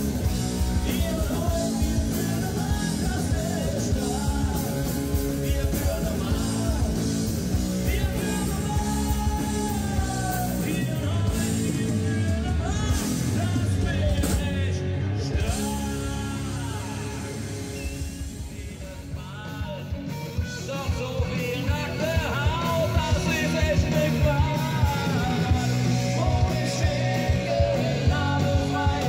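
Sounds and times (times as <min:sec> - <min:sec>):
live rock band with singer: 0:00.0 - 0:29.0.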